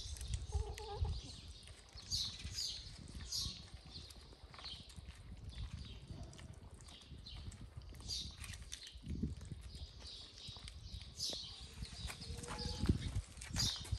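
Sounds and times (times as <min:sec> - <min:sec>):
kittens crunching dry kibble: 0:00.0 - 0:13.9.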